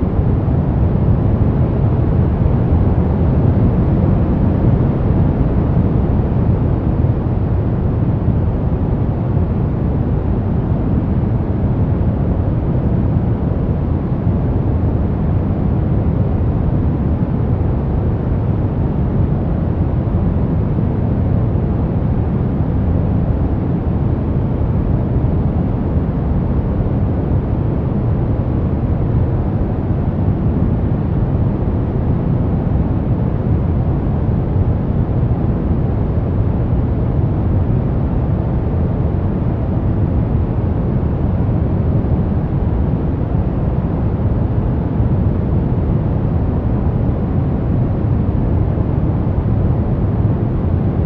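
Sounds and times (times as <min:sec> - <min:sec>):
brown noise: 0:00.0 - 0:51.0.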